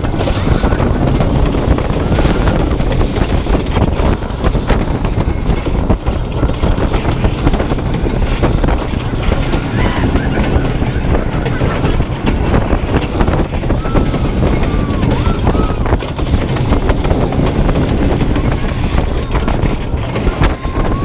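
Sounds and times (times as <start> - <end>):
roller coaster wheels rumbling: 0.0 - 21.0.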